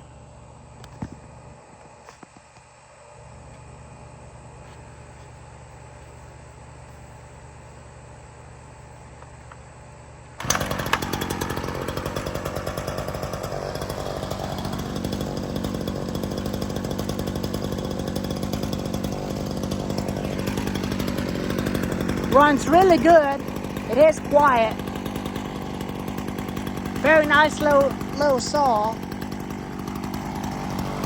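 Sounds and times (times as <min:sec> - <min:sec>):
chainsaw starting and running: 0:00.0 - 0:31.0.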